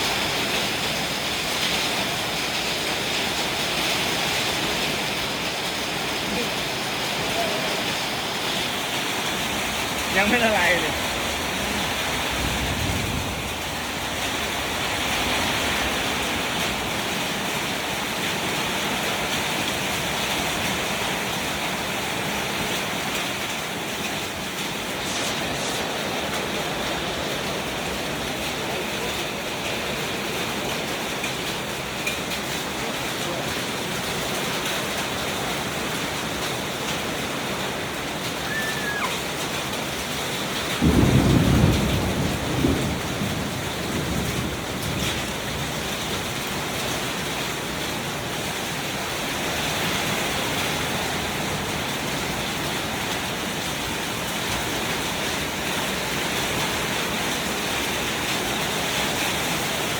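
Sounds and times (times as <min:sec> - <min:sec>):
hail falling: 0:00.0 - 0:59.9
heavy rain: 0:00.0 - 0:59.9.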